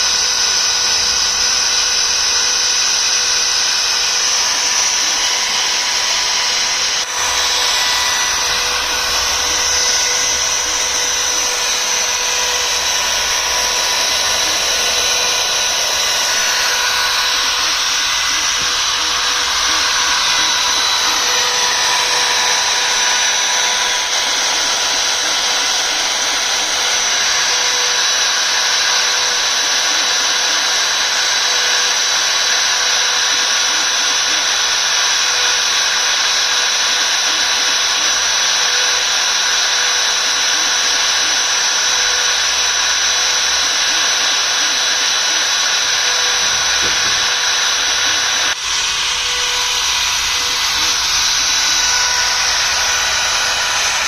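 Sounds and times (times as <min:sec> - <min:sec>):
hiss of cutting: 0:00.0 - 0:54.0
router spindle whining: 0:00.0 - 0:54.0.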